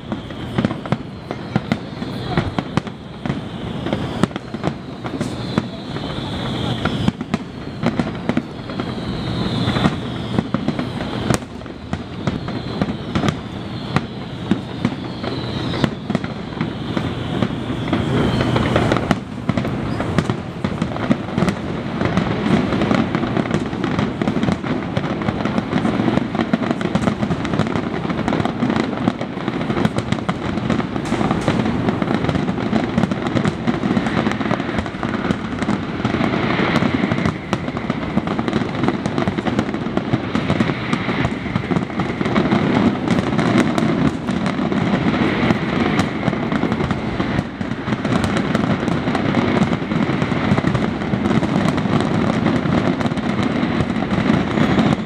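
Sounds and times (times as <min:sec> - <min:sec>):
falling firework whistles: 0:00.0 - 0:55.0
fireworks bursting: 0:00.0 - 0:55.0.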